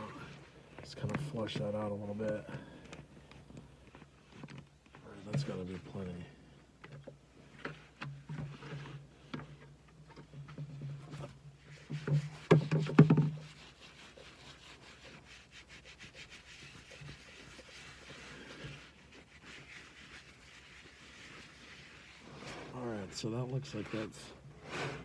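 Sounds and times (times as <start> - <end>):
rubbing and clicking of pump: 0.0 - 25.0.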